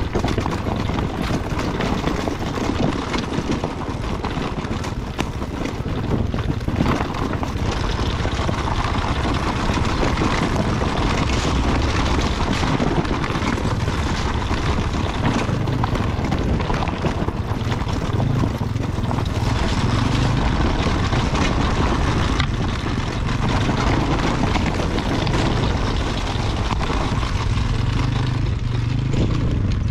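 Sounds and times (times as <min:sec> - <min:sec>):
chassis rattling over stones: 0:00.0 - 0:29.9
dirt bike engine at low revs: 0:00.0 - 0:29.9.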